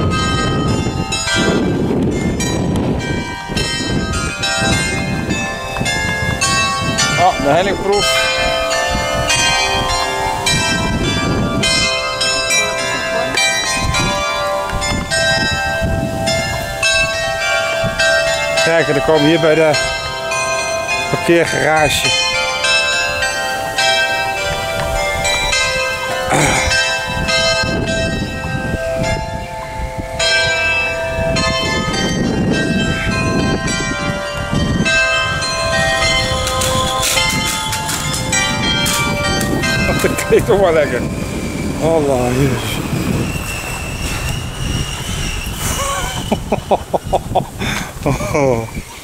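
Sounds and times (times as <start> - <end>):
tower bells ringing: 0.0 - 49.0.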